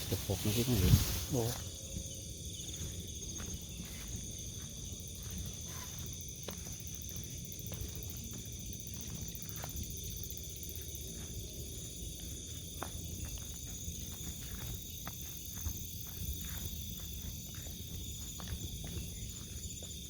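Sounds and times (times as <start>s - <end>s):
crickets chirring: 0.0s - 20.0s
footsteps in tall grass: 0.0s - 20.0s.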